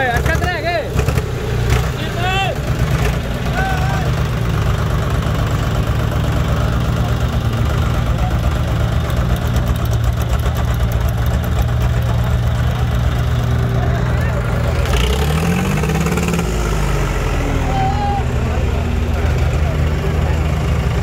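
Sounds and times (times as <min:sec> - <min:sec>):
diesel tractor engine idling: 0:00.0 - 0:21.0.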